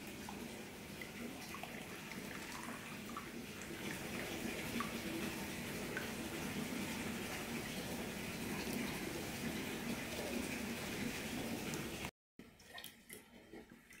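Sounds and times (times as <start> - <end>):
liquid splashing and trickling: 0.0 - 14.0.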